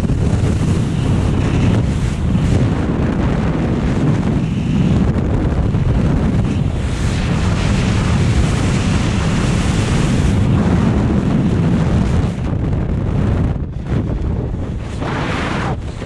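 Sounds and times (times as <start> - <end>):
wind roaring over microphone: 0.0 - 16.0.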